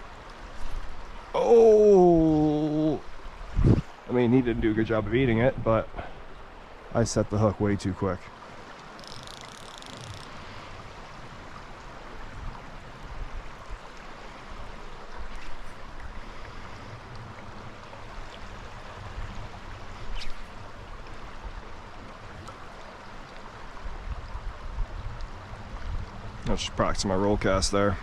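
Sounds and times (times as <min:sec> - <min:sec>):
creek water rushing over rocks: 0:00.0 - 0:28.0.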